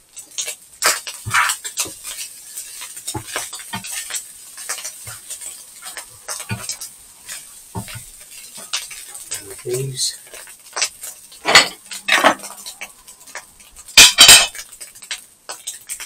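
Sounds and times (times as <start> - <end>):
utensil scraping frying pan: 0.2 - 16.0.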